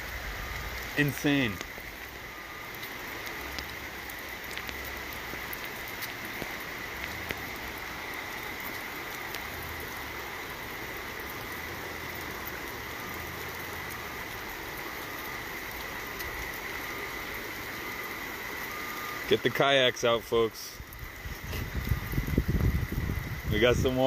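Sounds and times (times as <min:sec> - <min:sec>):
water hissing on street: 0:00.0 - 0:24.0
water drops ticking: 0:00.4 - 0:22.7.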